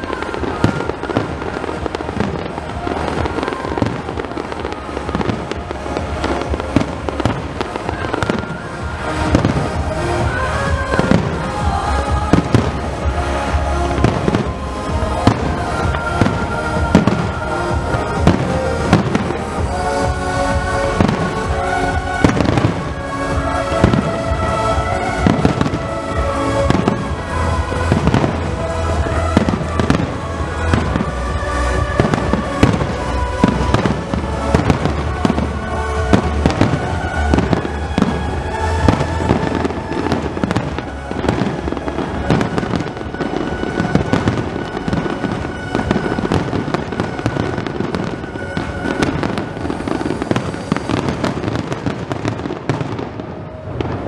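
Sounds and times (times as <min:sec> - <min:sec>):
music playing: 0:00.0 - 0:54.0.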